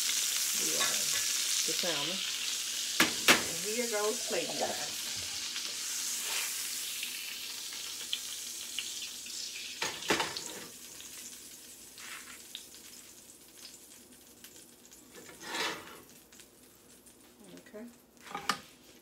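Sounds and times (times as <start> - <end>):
fish sizzling in a skillet: 0.0 - 17.6.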